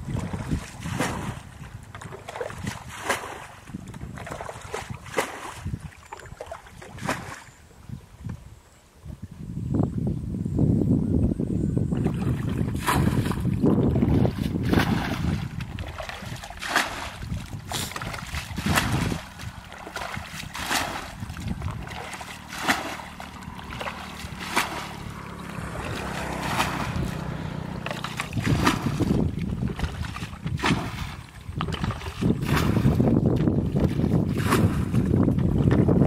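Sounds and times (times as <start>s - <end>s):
water splashing from bucket: 0.0s - 7.5s, 12.0s - 36.0s
wind buffeting microphone: 0.0s - 36.0s.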